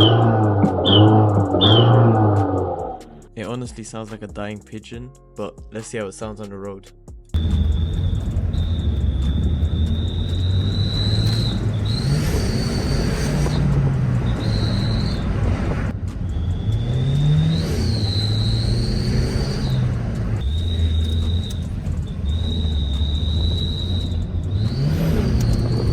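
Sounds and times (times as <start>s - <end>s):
high thin turbo whistle: 0.0s - 3.2s, 7.4s - 25.9s
car engine: 0.0s - 3.4s, 7.4s - 25.9s
road noise: 0.0s - 3.4s, 7.4s - 25.9s.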